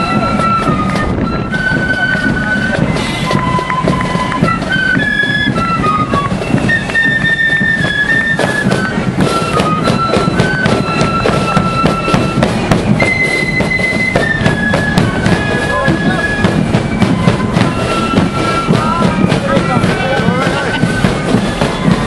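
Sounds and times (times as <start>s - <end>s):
drum beat: 0.0s - 22.0s
flute melody: 0.0s - 22.0s.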